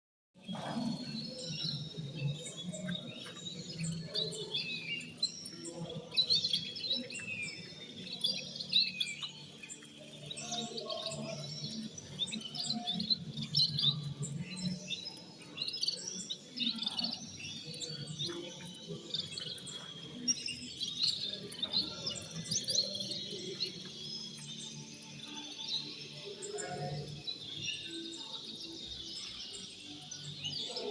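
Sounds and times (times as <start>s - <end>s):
cage birds chirping: 0.4s - 30.9s.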